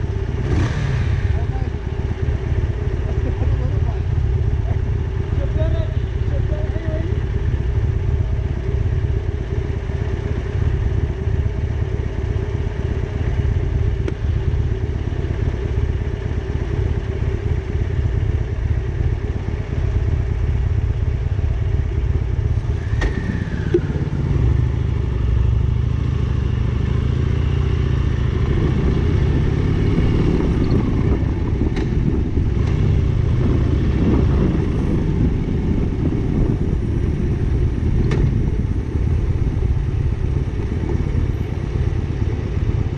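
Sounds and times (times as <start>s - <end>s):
motorcycle engine rumbling: 0.0s - 42.9s.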